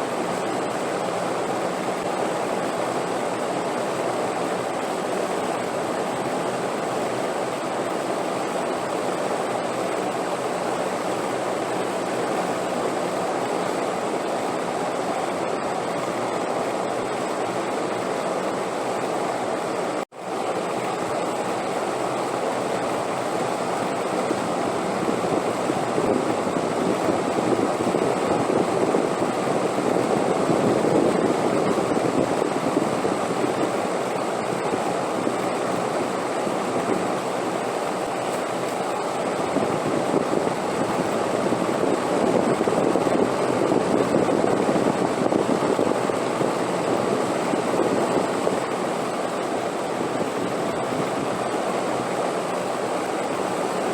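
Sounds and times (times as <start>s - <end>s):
rushing wind noise: 0.0s - 53.9s.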